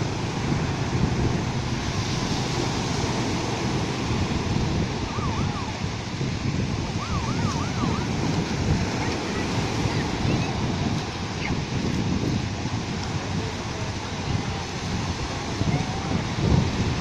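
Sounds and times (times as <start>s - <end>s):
ocean surf breaking on beach: 0.0s - 17.0s
wind buffeting microphone: 0.0s - 17.0s.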